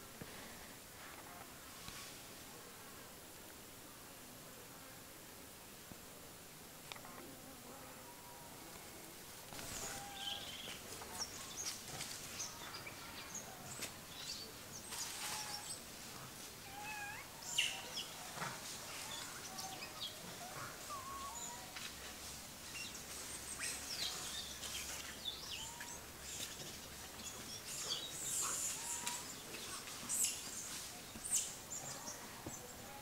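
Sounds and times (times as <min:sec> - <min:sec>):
faint outdoor hiss: 0:00.0 - 0:33.0.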